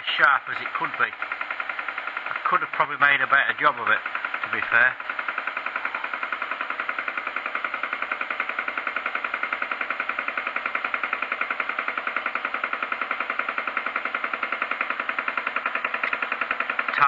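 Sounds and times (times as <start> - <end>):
milling machine cutting metal: 0.0 - 17.0.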